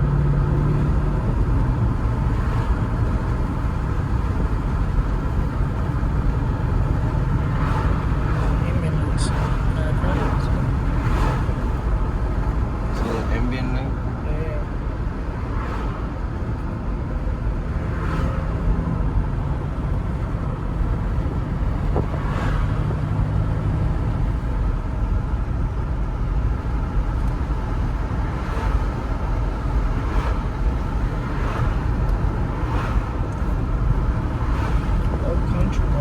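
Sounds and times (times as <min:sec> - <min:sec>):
car engine: 0:00.0 - 0:36.0
road noise: 0:00.0 - 0:36.0.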